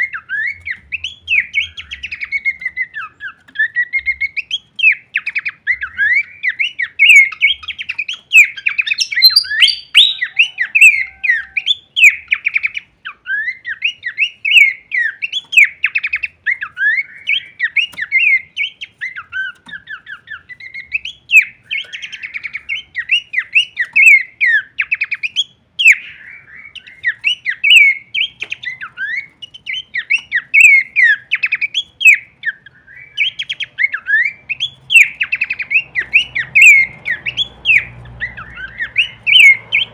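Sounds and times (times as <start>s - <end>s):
bird singing rapid chirps: 0.0s - 39.9s.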